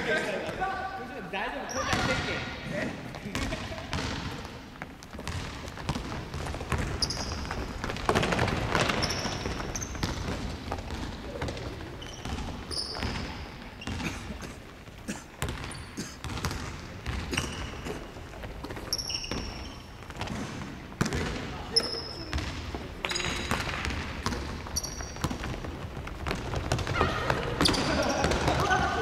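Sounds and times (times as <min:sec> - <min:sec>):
sneakers squeaking on floor: 0:01.6 - 0:29.0
basketball bouncing: 0:01.8 - 0:02.4, 0:03.1 - 0:29.0.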